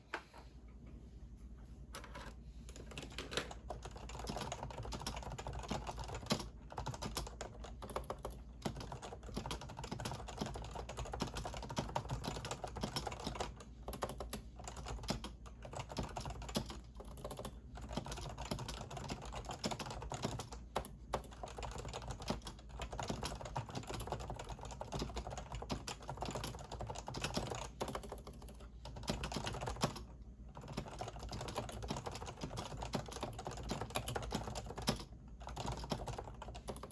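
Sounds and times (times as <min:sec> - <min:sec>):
fast typing on a keyboard: 0:02.7 - 0:36.9.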